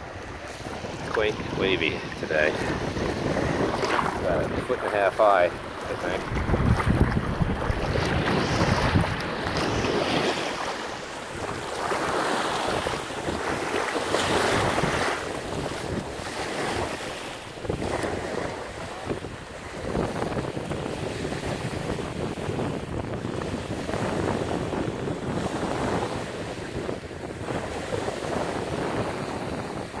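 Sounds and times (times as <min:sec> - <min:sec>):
waves washing: 0:00.0 - 0:30.0
wind buffeting microphone: 0:00.0 - 0:30.0.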